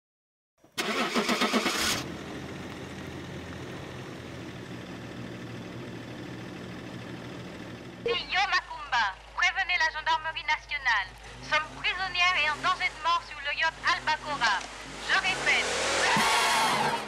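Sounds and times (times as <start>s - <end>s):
car engine starting and idling: 0.6s - 17.0s.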